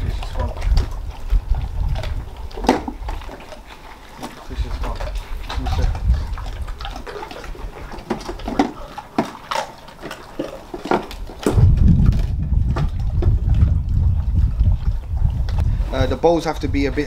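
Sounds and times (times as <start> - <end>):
steady low rumbling noise: 0.0 - 8.9, 11.1 - 17.0
dogs crunching and gnawing: 0.0 - 17.0.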